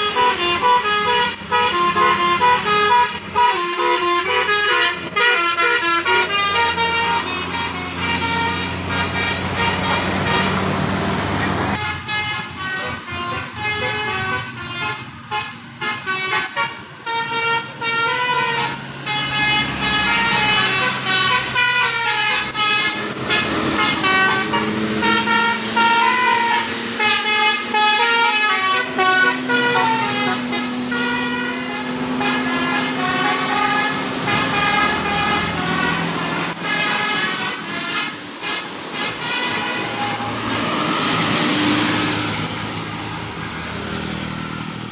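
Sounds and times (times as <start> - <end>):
musical air horn playing fast tune: 0.0 - 10.8, 11.7 - 40.5.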